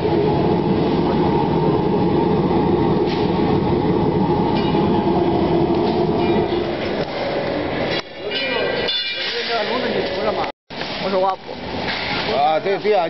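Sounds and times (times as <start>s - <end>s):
dryer burner and fans roaring: 0.0s - 13.0s.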